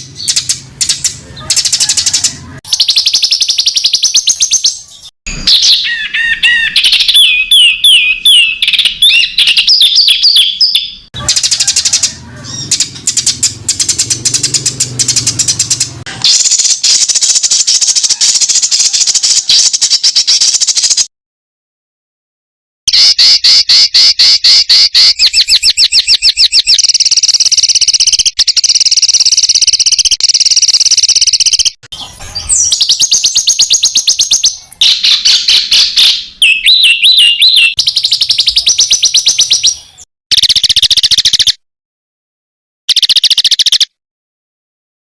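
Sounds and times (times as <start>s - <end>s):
bird looping up-and-down whistles: 0.2s - 21.1s, 22.9s - 31.8s, 32.4s - 41.6s, 42.9s - 44.0s
songbird fast repeated high notes: 0.2s - 21.1s, 22.9s - 31.8s, 32.4s - 41.6s, 42.9s - 43.9s.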